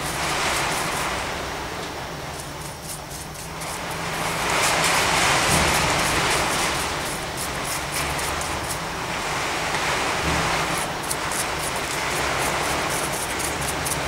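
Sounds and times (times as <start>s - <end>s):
paintbrush scrubbing on plaster: 0.0s - 1.3s, 2.3s - 14.0s.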